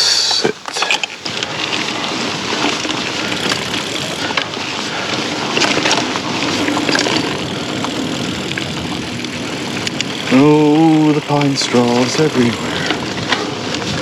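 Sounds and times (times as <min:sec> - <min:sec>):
bike tyres rushing over dirt: 0:00.4 - 0:14.0
bike clicks and rattles: 0:00.6 - 0:14.0.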